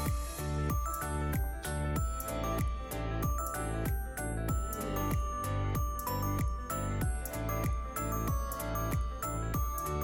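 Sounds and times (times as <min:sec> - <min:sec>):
gentle instrumental music with beat: 0:00.0 - 0:10.0.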